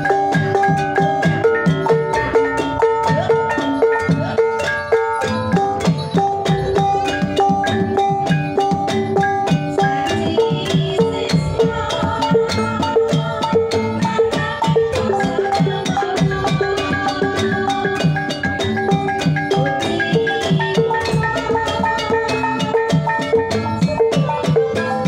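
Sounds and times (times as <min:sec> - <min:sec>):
gongs and metallophones ringing: 0:00.0 - 0:25.0
hand drum strokes: 0:00.0 - 0:25.0.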